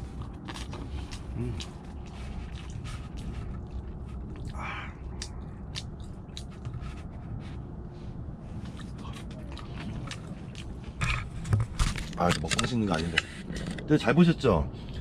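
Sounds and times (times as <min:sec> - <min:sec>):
man chewing: 0:00.0 - 0:13.8.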